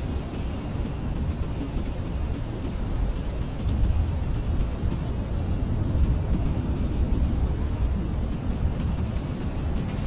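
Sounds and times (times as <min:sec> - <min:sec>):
blizzard wind roaring: 0:00.0 - 0:10.0.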